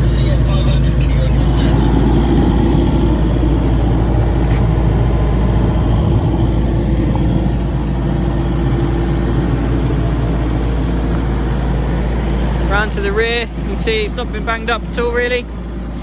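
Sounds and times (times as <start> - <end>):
excavator diesel engine idling: 0.0 - 16.0.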